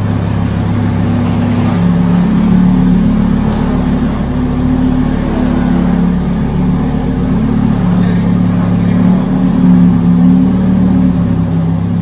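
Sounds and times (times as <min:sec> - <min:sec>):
sports car engine running: 0:00.0 - 0:12.0.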